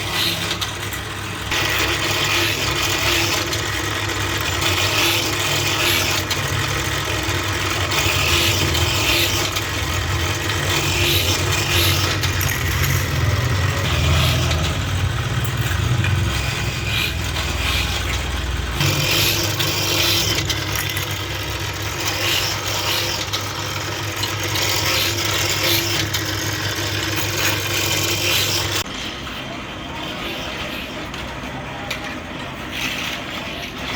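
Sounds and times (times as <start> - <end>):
factory machinery humming: 0.0 - 33.6.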